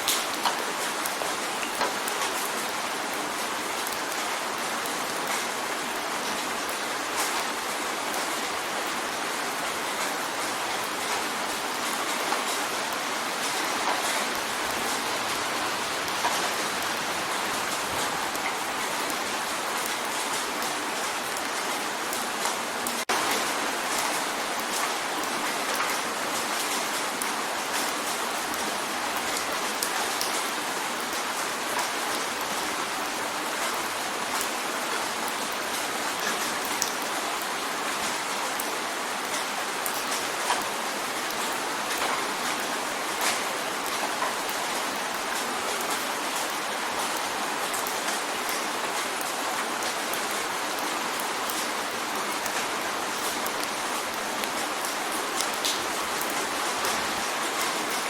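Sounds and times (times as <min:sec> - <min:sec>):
rain drumming on a window: 0:00.0 - 0:58.0.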